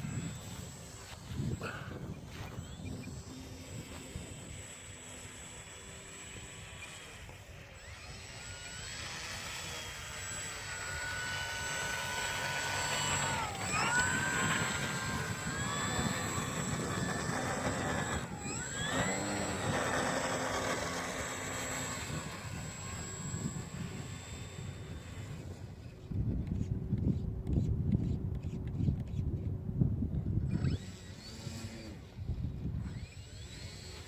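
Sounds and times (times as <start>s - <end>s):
model airplane motor whining: 0.0s - 34.0s.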